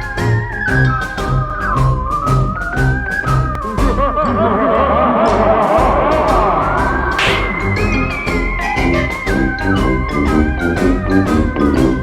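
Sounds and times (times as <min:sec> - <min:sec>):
gliding high lead melody: 0:00.0 - 0:12.0
steady bass beat: 0:00.0 - 0:12.0.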